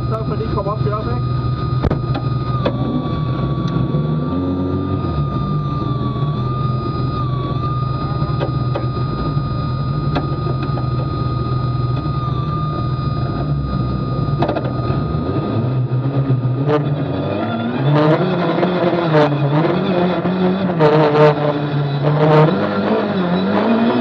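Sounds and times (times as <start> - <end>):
car engine idling: 0.0 - 24.0
steady high whine: 0.0 - 24.0.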